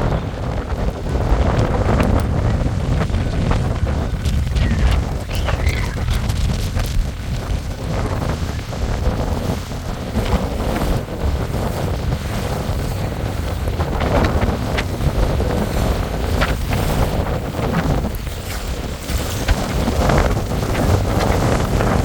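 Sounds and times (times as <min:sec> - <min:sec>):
choppy water sloshing: 0:00.0 - 0:22.0
wind buffeting microphone: 0:00.0 - 0:22.0.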